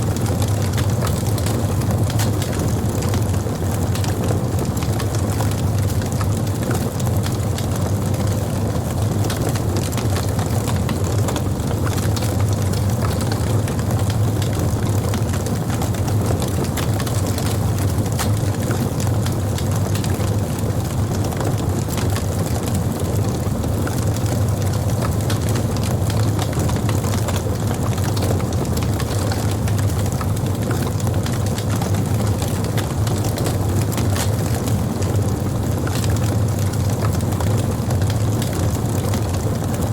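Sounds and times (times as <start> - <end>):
low fire rumble: 0.0 - 39.9
campfire crackling and popping: 0.1 - 39.9.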